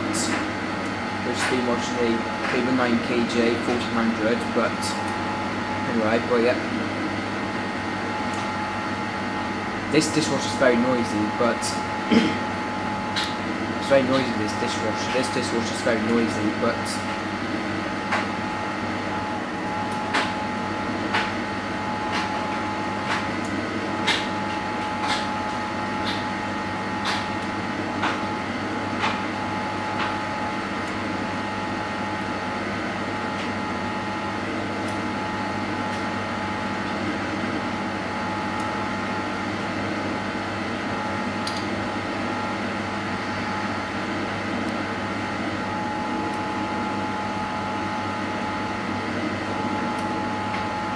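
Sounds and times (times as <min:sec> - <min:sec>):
dishwasher hum with whine: 0:00.0 - 0:50.9
tumble dryer running: 0:00.0 - 0:50.9.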